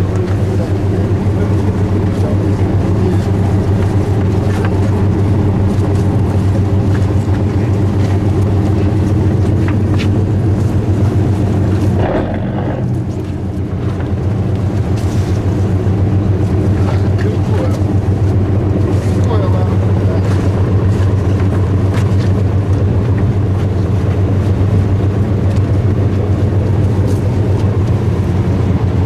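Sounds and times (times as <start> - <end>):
boat engine droning: 0.0 - 29.0
rush of noise: 0.0 - 29.0.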